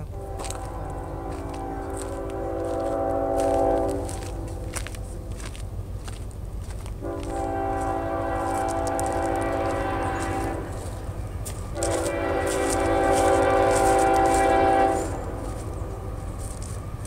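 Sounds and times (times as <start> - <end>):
locomotive air horn blasts: 0.0 - 5.2, 7.0 - 16.5.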